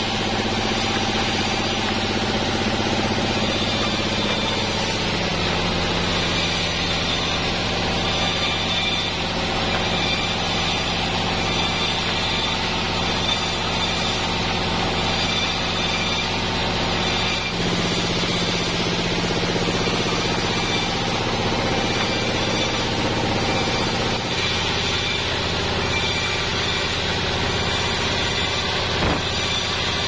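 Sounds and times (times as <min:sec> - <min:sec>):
band saw cutting wood: 0:00.0 - 0:30.0.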